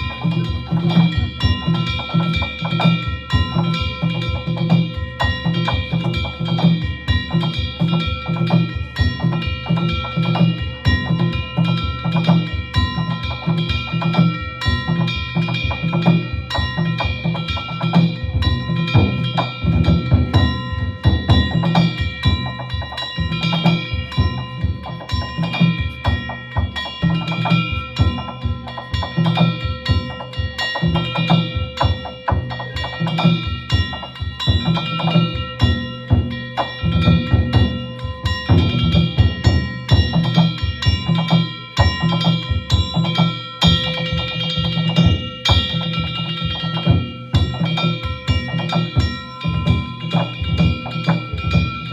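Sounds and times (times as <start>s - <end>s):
ringing metal gongs: 0.0s - 51.9s
taiko drums in fast rhythm: 0.0s - 51.9s.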